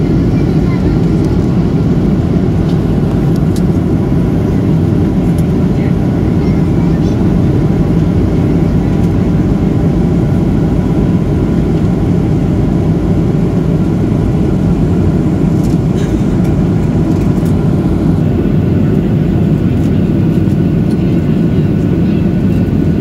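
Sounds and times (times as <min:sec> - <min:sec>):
airplane cabin roar: 0:00.0 - 0:23.0.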